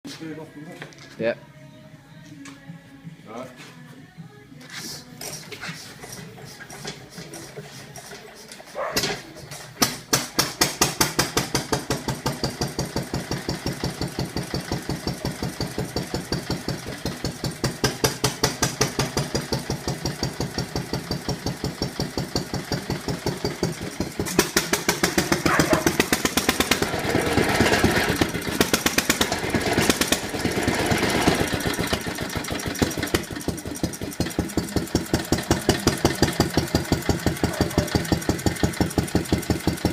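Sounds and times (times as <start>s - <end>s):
rattling clatter: 5.2s - 39.9s.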